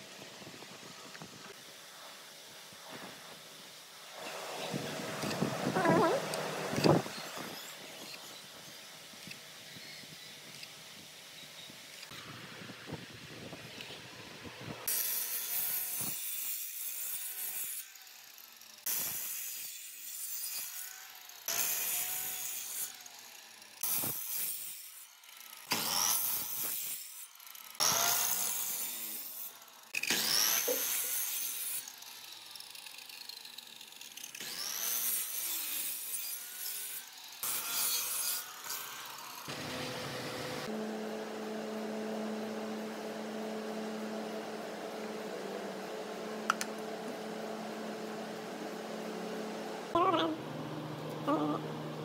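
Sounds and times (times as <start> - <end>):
miter saw cutting wood: 3.3 - 12.2, 14.8 - 52.0.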